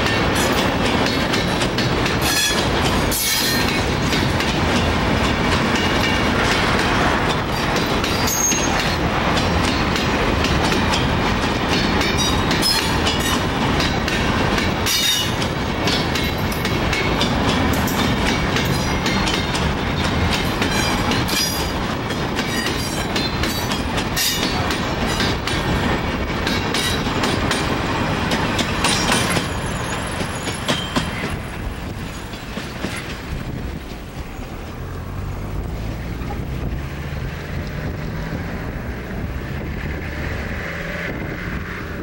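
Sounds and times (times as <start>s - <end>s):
freight train wheels clattering: 0.0s - 42.0s.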